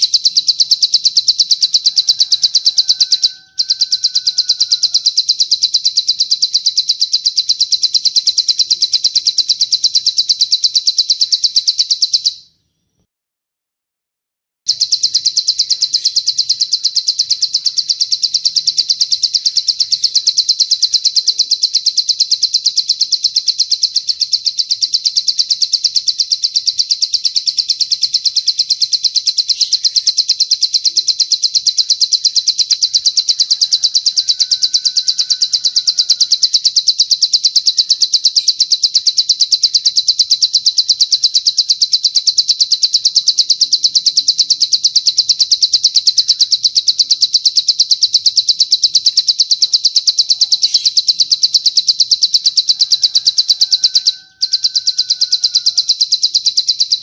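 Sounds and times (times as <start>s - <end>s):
high-pitched bird trill: 0.0s - 13.1s, 14.7s - 57.0s.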